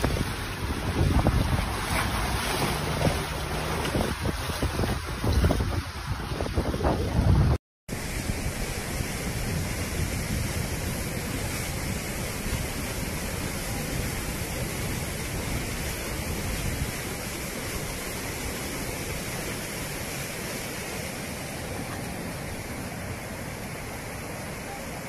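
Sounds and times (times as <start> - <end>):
floodwater rushing across road: 0.0 - 25.0.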